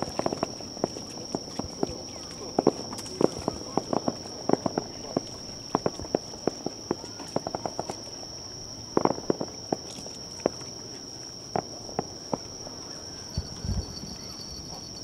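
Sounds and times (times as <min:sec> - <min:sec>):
fireworks crackling and popping: 0:00.0 - 0:12.8
steady high whine: 0:00.0 - 0:15.0.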